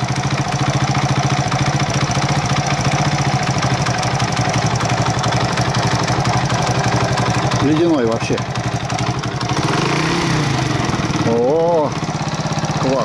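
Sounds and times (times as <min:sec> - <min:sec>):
moped engine idling: 0:00.0 - 0:13.0.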